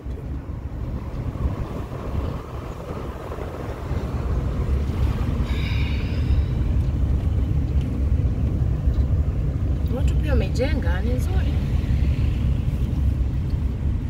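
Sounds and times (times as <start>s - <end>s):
car engine and tyres rumbling: 0.0s - 14.0s
wind buffeting microphone: 0.0s - 14.0s.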